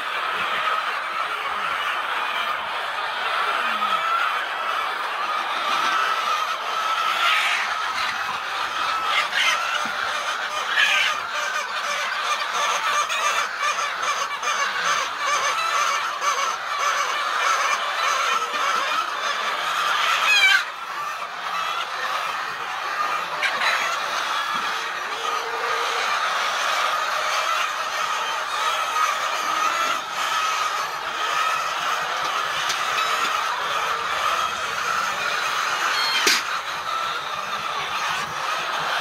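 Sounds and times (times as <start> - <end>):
flock of birds chattering: 0.0 - 39.0.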